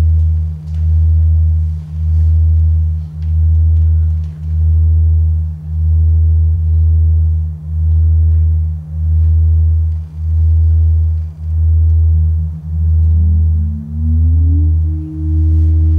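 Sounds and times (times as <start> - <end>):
deep sine wave drone: 0.0 - 15.9
steady higher hum: 0.0 - 15.9.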